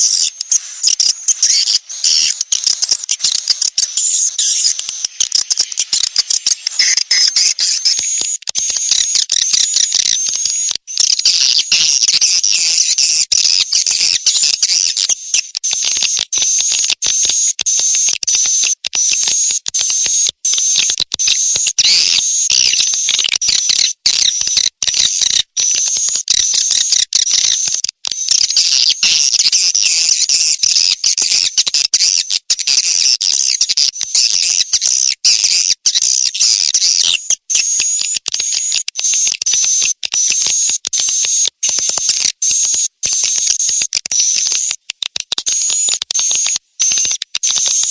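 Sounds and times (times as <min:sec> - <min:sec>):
high-pitched chick chirps twittering: 0:00.0 - 0:47.9.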